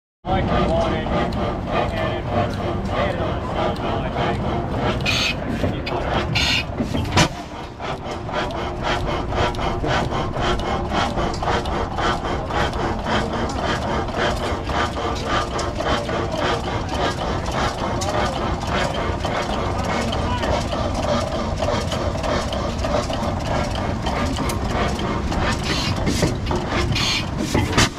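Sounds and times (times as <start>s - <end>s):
old engine clattering: 0.3s - 27.9s.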